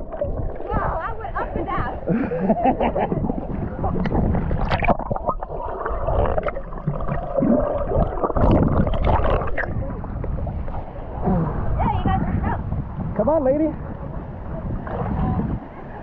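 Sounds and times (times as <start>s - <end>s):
seawater sloshing and gurgling: 0.0s - 16.0s.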